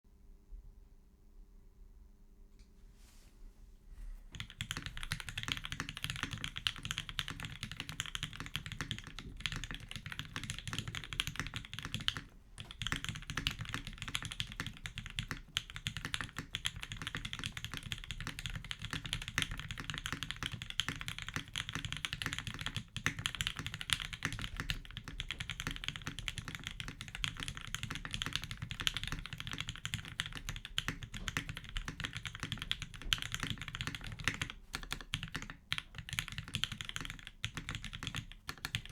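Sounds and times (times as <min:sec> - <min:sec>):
fast mechanical keyboard typing: 0:04.3 - 0:38.9.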